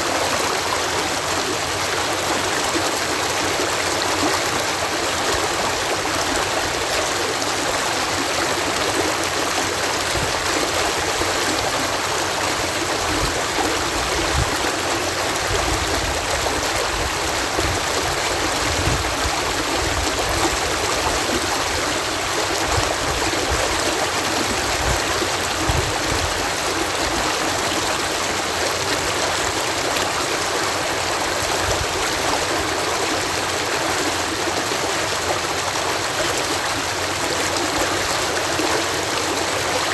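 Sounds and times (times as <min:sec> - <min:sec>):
water cascading through lock: 0:00.0 - 0:39.9.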